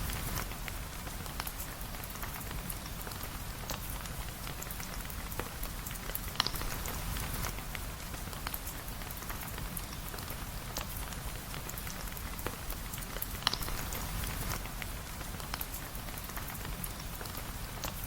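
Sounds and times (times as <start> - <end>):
steady rain hiss: 0.0 - 18.0
sharp drip-like ticks: 0.1 - 18.0.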